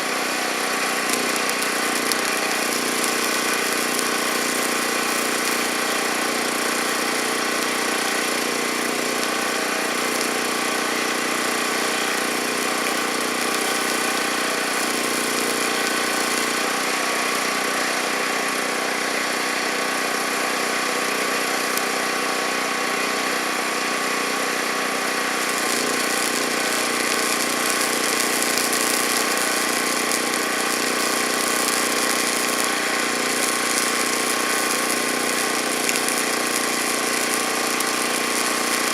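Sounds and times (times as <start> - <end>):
machine running: 0.0 - 38.9.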